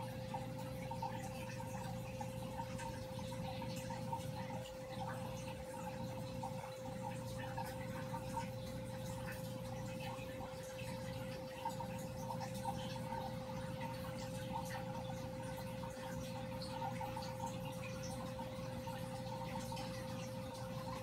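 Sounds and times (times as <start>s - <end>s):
aquarium pump humming: 0.0s - 21.0s
water trickling and dripping: 0.0s - 21.0s.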